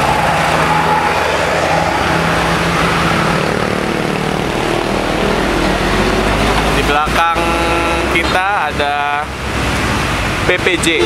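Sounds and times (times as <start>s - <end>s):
diesel truck engine driving past: 0.0s - 10.4s.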